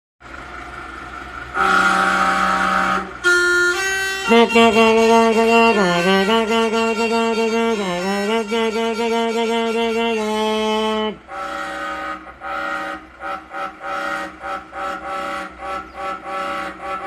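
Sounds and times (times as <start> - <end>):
truck musical horn: 0.2 - 17.0.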